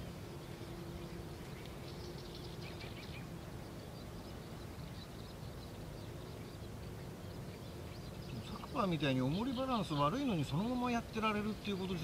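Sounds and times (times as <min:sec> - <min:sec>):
faint steady hum: 0:00.0 - 0:12.0
low steady rumble: 0:00.0 - 0:12.0
small birds chirping: 0:00.0 - 0:12.0.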